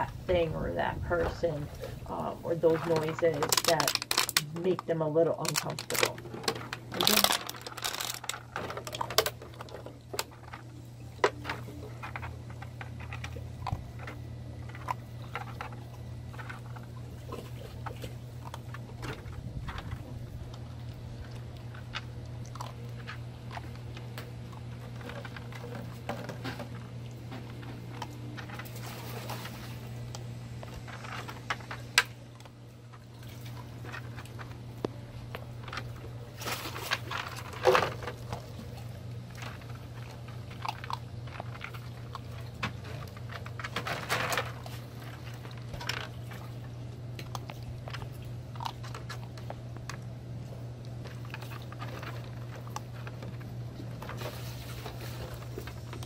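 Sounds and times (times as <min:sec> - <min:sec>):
low hum: 0:00.0 - 0:56.0
plastic bottles crinkling and knocking: 0:01.2 - 0:30.0, 0:30.6 - 0:50.1, 0:50.9 - 0:56.0
puppy crunching kibble: 0:01.2 - 0:56.0.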